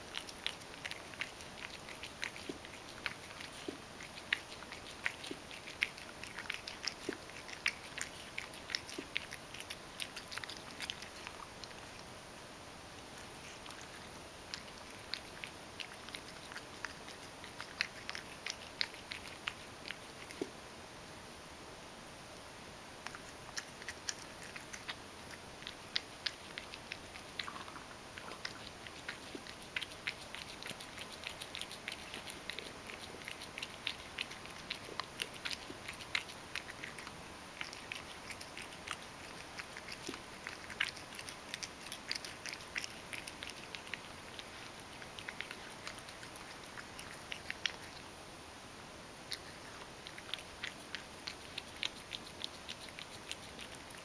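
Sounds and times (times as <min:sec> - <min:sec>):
cat chewing kibble: 0:00.0 - 0:12.2, 0:12.9 - 0:20.6, 0:23.0 - 0:48.2, 0:49.2 - 0:54.0.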